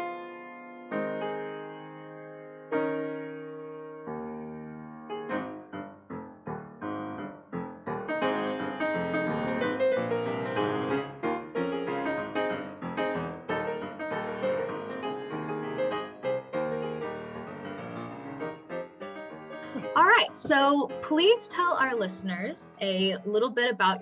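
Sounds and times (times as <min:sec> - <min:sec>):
piano melody: 0:00.0 - 0:24.0.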